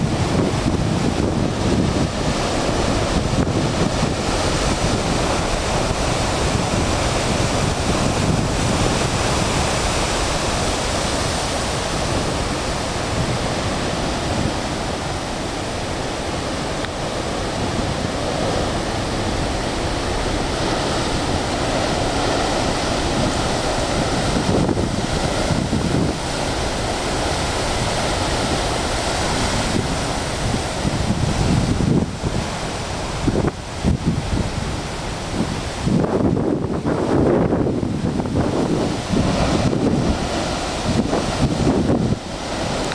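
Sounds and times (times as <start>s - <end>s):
surf breaking on rocky shore: 0.0s - 42.9s
wind buffeting microphone: 0.0s - 42.9s.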